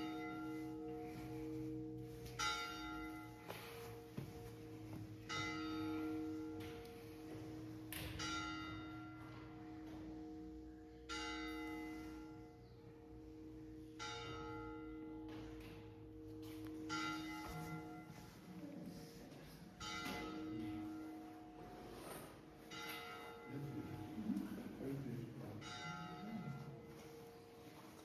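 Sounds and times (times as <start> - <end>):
church bell tolling: 0.0 - 18.8, 19.4 - 28.0.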